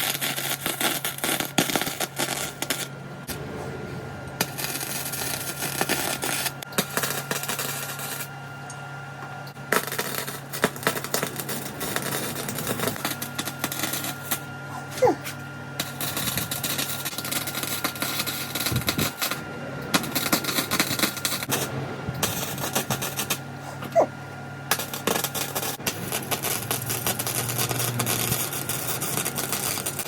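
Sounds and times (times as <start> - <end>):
welding arc crackling: 0.0 - 3.4, 4.4 - 8.4, 9.4 - 24.1, 24.7 - 30.0
low hum: 0.7 - 28.8.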